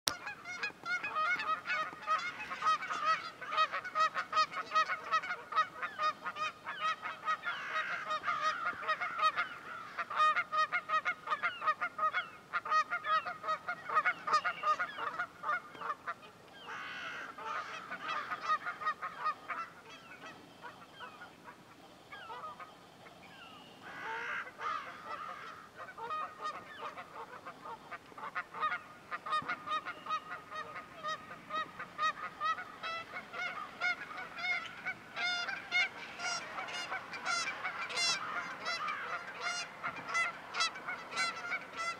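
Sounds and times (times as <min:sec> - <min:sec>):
geese honking: 0:00.1 - 0:22.8, 0:23.4 - 0:41.9.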